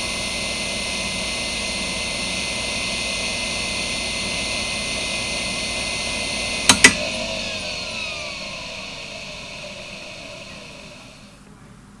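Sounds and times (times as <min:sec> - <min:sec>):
hard drive whining: 0:00.0 - 0:12.0.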